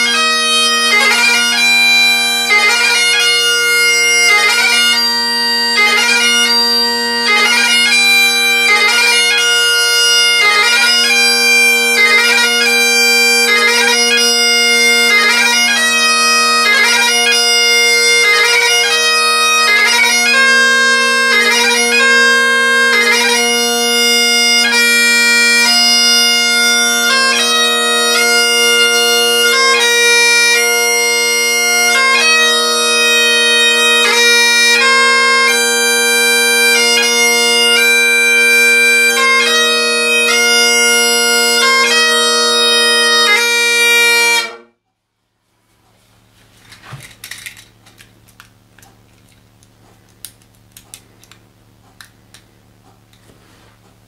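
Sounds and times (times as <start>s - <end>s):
bagpipe playing: 0.0s - 44.8s.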